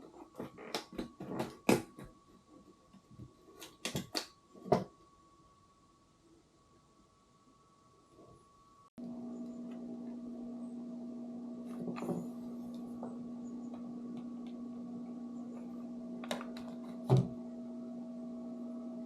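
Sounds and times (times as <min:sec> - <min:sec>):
ventilation fan humming: 0:00.0 - 0:19.0.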